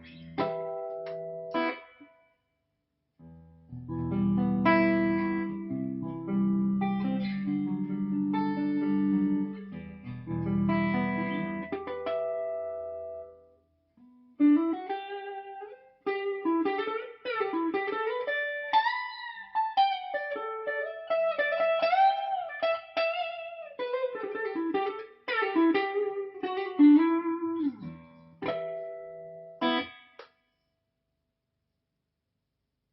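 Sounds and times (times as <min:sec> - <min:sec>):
clean electric guitar melody: 0:00.0 - 0:02.2, 0:03.2 - 0:30.2.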